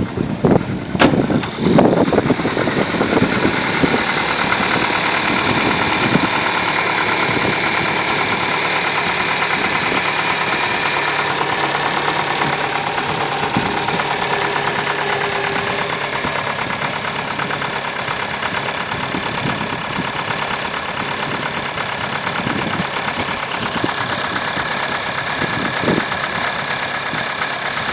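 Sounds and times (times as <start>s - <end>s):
car engine idling: 0.0s - 27.9s
valvetrain ticking: 0.8s - 27.9s.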